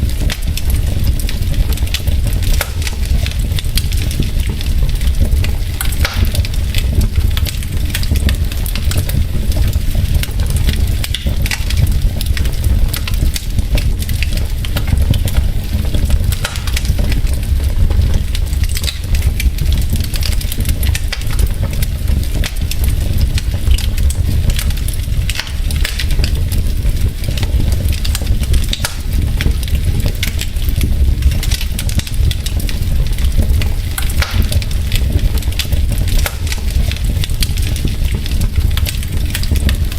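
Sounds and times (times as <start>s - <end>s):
fire rumbling: 0.0s - 39.9s
wood fire crackling and popping: 0.0s - 39.9s.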